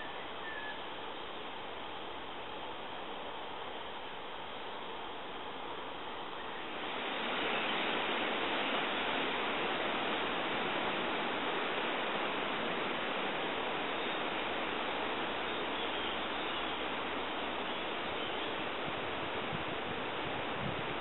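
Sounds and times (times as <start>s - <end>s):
wind rushing through foliage: 0.0s - 21.0s.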